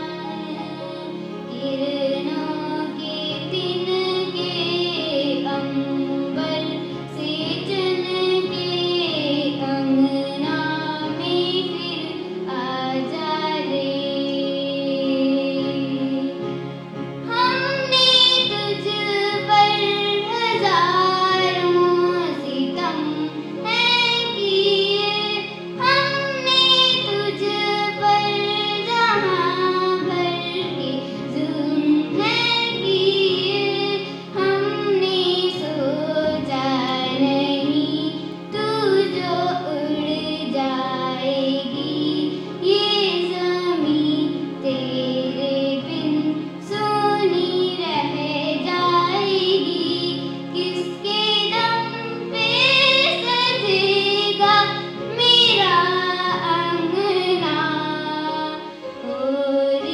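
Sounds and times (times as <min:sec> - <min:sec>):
child singing: 0:00.0 - 0:16.3, 0:17.3 - 0:59.9
sustained instrumental accompaniment: 0:00.0 - 0:59.9.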